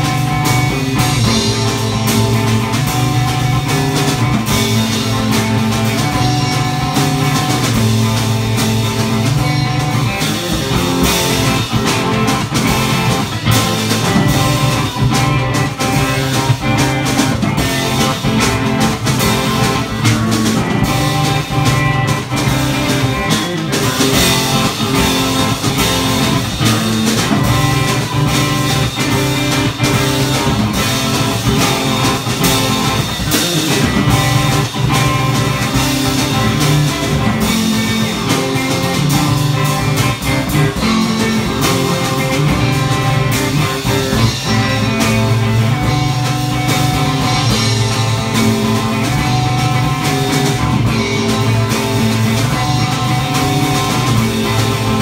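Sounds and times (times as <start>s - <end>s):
drum kit: 0.0s - 55.0s
electric guitar through amplifier: 0.0s - 55.0s.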